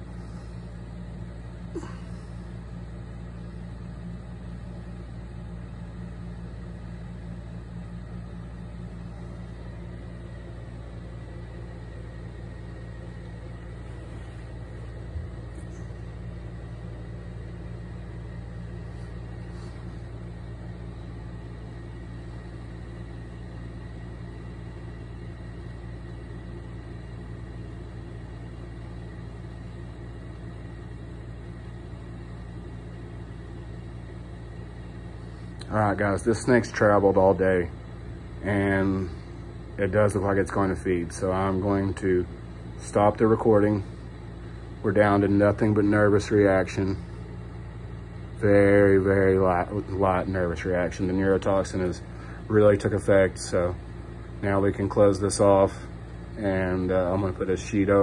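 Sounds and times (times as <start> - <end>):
low machinery hum: 0.0 - 58.0.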